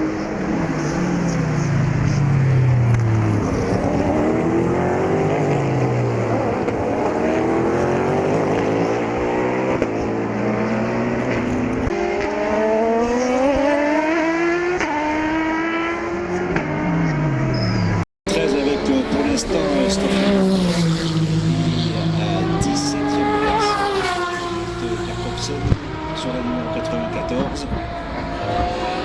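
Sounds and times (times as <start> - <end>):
racing car passing: 0.0 - 29.0
racing engine accelerating: 0.0 - 29.0.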